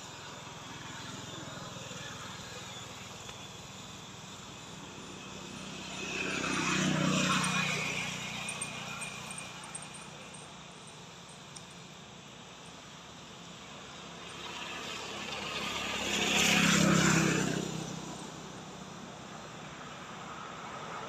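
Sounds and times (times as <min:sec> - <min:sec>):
vehicle passing on road: 0:00.6 - 0:12.0, 0:13.1 - 0:19.1.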